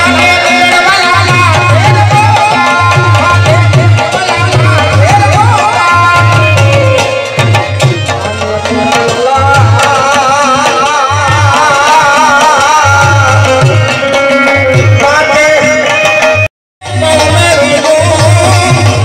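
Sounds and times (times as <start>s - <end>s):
tabla and drum rhythm: 0.0s - 19.0s.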